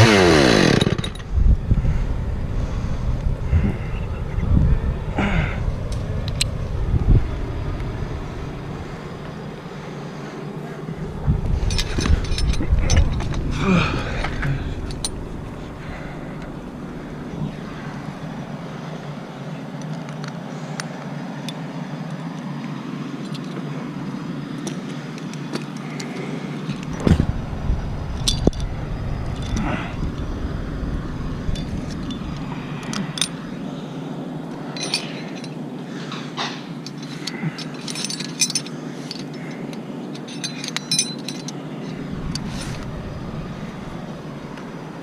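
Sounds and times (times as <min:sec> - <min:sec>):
engine running steadily: 0:00.0 - 0:45.0
light metallic clinks: 0:05.8 - 0:33.6, 0:34.5 - 0:44.9.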